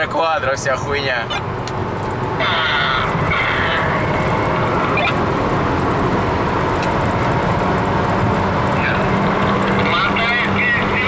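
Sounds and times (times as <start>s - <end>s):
car engine accelerating hard: 0.0s - 11.0s
road and wind noise: 0.0s - 11.0s.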